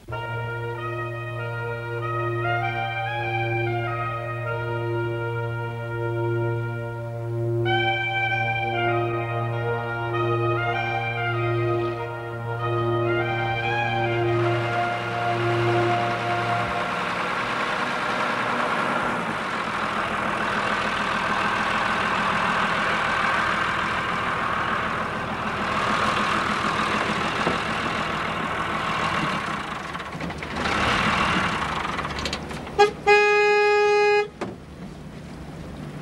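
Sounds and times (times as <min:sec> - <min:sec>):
truck horn honking: 0:00.0 - 0:34.5
truck engine running: 0:00.0 - 0:36.0.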